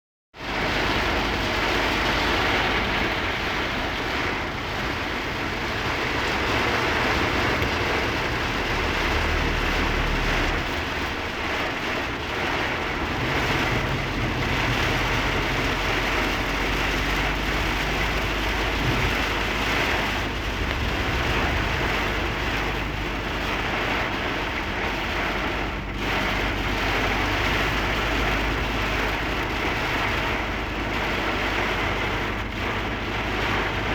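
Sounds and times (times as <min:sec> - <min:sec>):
engine and road noise: 0:00.3 - 0:33.9
heavy rain on vehicle: 0:00.3 - 0:33.9.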